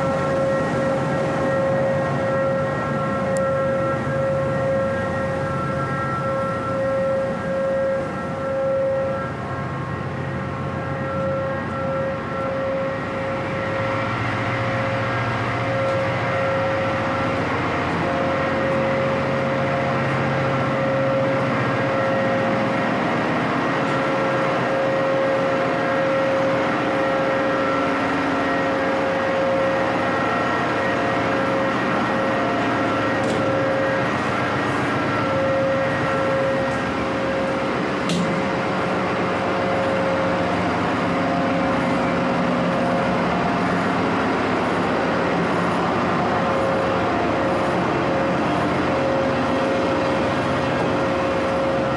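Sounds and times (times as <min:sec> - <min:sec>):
loud machinery humming and whining: 0:00.0 - 0:51.9.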